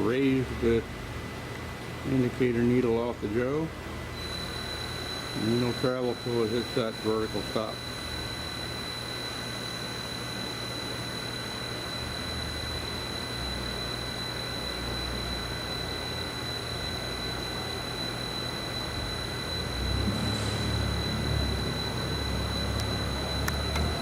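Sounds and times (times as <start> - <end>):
low machine hum: 0.0 - 24.0
high-pitched grinder whine: 4.2 - 24.0.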